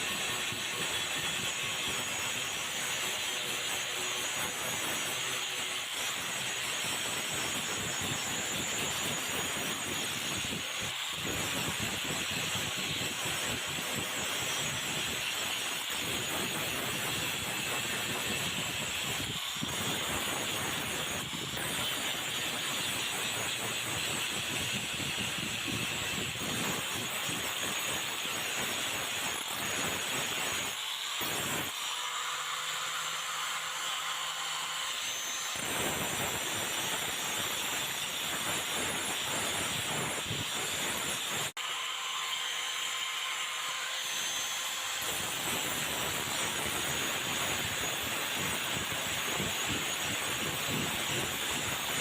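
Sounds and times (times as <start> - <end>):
metal blade grinding: 0.0 - 52.0.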